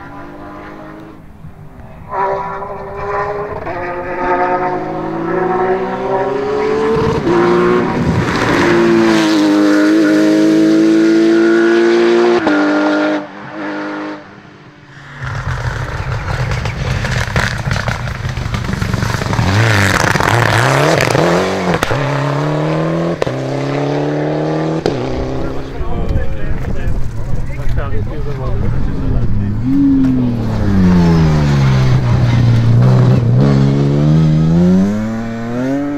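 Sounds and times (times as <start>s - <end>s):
rally car accelerating hard: 0.0s - 35.9s
turbocharged rally car revving: 0.0s - 35.9s.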